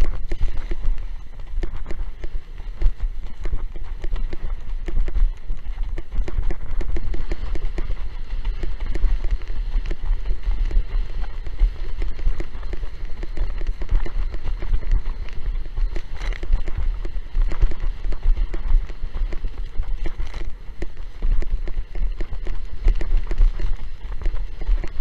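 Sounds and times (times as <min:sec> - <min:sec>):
choppy water splashing: 0:00.0 - 0:25.0
wind buffeting microphone: 0:00.0 - 0:25.0.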